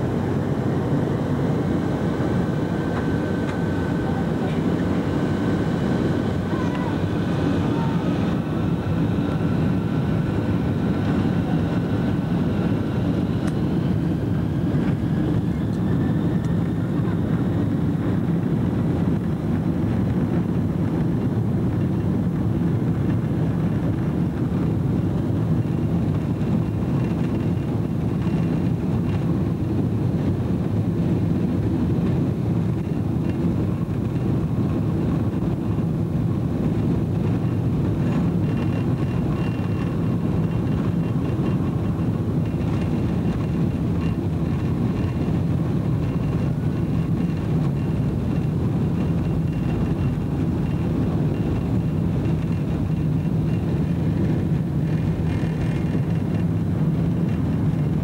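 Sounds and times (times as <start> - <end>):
jet engine rumble: 0.0 - 58.0
turbine whine: 0.0 - 58.0.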